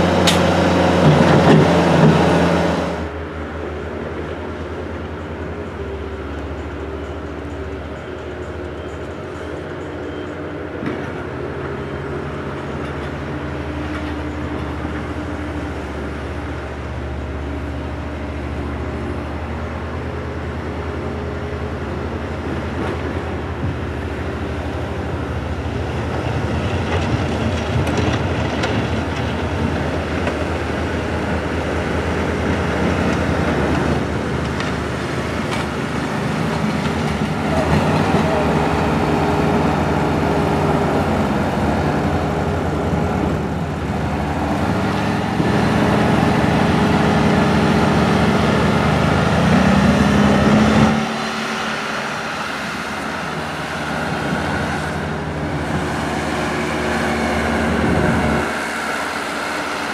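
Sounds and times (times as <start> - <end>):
rail noise: 0.0 - 59.9
train engine drone: 0.0 - 59.9.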